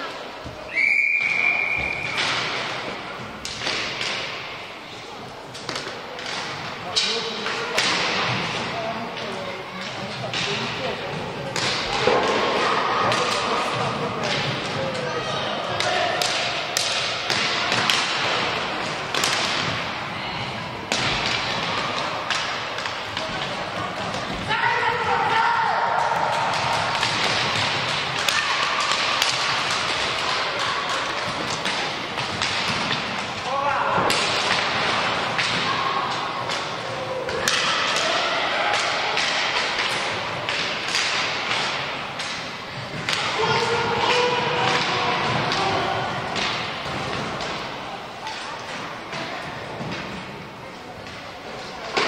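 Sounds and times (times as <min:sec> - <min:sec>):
hockey sticks and puck clacking: 0:00.0 - 0:52.0
steady background noise: 0:00.0 - 0:52.0.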